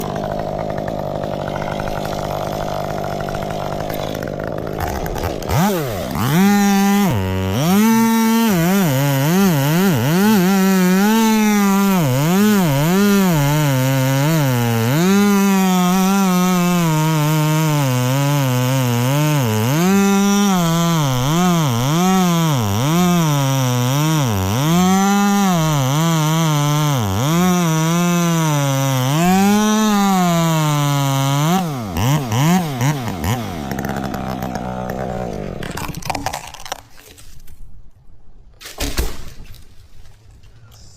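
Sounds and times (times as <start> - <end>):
chainsaw revving: 0.0 - 36.8.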